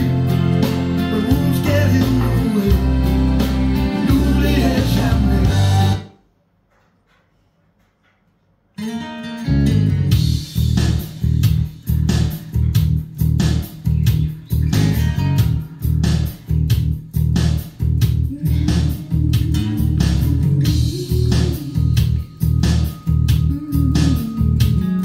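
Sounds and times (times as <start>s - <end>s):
guitar and bass song with pulsing beat: 0.0s - 6.1s, 8.8s - 25.0s.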